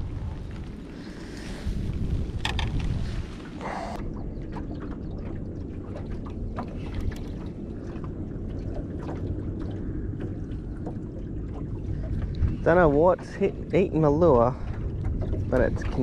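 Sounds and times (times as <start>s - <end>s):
choppy water against boat hull: 0.0s - 16.0s
wind rumble: 0.0s - 16.0s.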